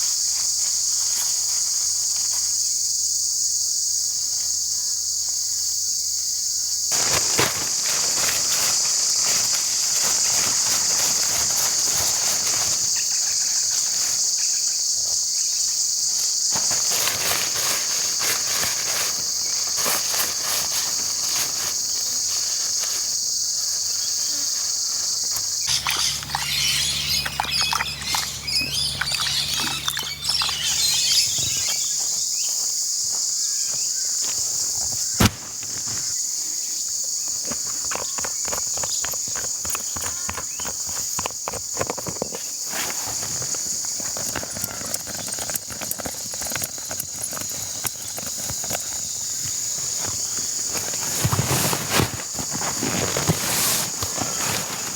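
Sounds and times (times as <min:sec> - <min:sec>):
crackling and rustling: 0:00.0 - 0:02.9, 0:06.8 - 0:54.9
high-pitched insect chorus: 0:00.0 - 0:54.9.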